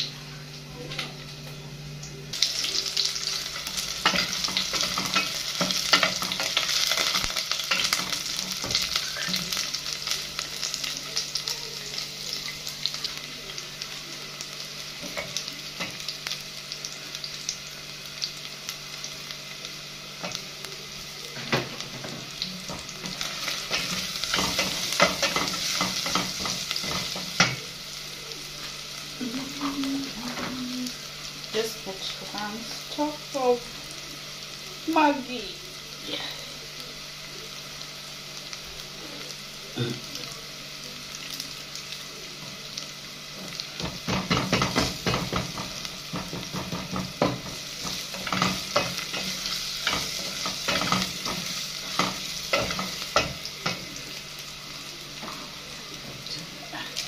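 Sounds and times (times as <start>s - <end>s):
onions sizzling in a pot: 0.0s - 57.0s.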